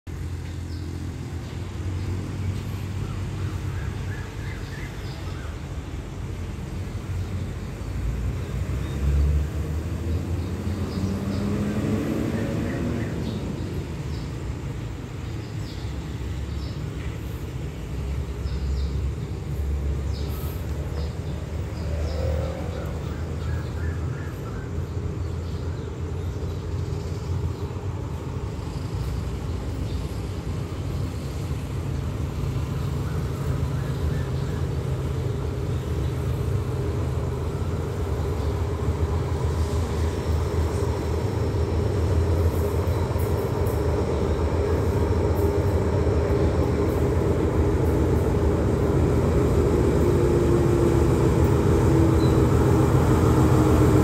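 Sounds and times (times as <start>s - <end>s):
diesel train rumble: 0.1s - 54.0s.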